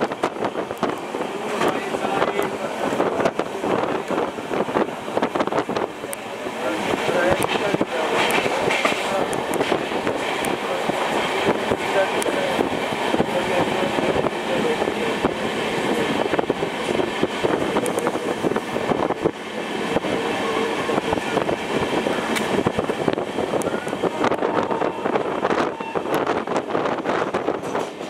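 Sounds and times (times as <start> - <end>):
train coach rattling and rumbling: 0.0 - 28.0.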